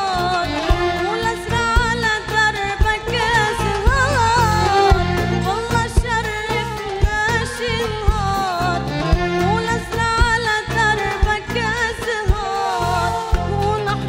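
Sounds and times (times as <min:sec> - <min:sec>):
instrumental backing with low beat: 0:00.0 - 0:14.0.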